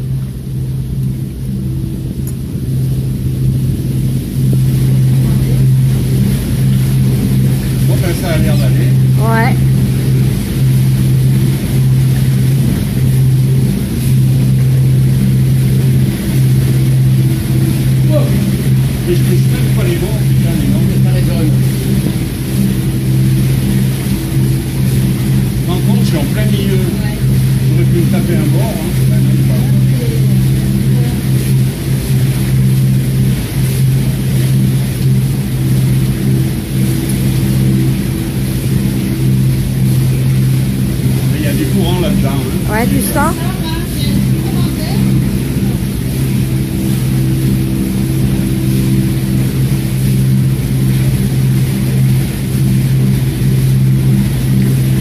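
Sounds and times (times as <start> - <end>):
boat engine humming in tunnel: 0.0 - 55.0.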